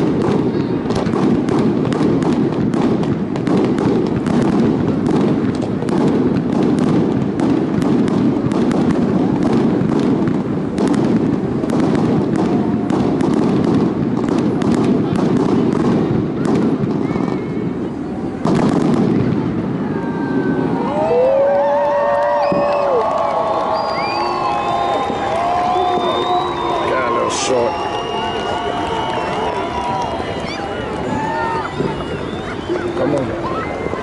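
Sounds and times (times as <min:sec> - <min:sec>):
fireworks bangs and crackling: 0:00.0 - 0:34.0
low rush of noise: 0:00.0 - 0:34.0.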